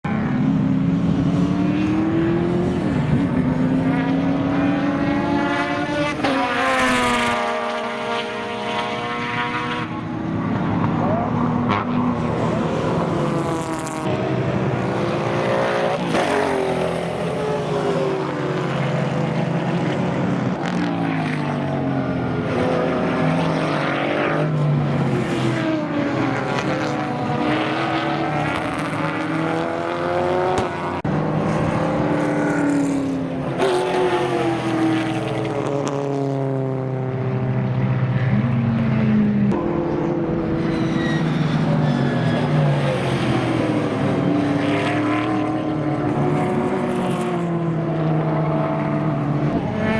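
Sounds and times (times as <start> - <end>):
racing car engines revving: 0.1 - 49.9.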